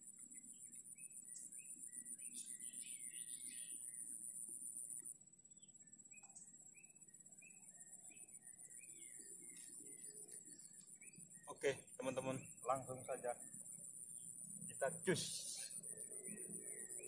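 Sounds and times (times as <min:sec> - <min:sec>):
birds chirping: 0:00.0 - 0:17.0
steady high-pitched buzz: 0:00.0 - 0:17.0.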